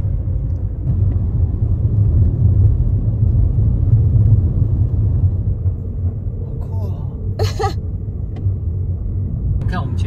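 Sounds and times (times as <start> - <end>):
car driving on snow: 0.0 - 10.0.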